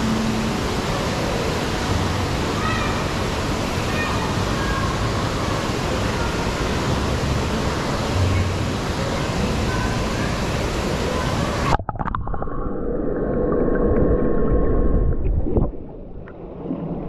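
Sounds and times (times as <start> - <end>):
water cascade pouring into pool: 0.0 - 17.0.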